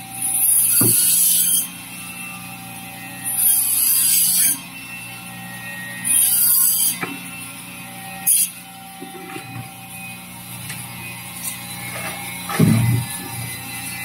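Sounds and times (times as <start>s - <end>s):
band saw motor hum: 0.0s - 14.0s.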